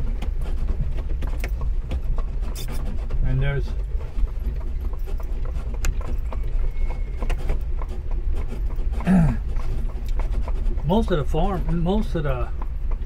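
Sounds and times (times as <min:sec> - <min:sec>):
carriage low rumble: 0:00.0 - 0:13.0
carriage rattles and knocks: 0:00.0 - 0:13.0
horse hooves clip-clopping: 0:00.0 - 0:13.0.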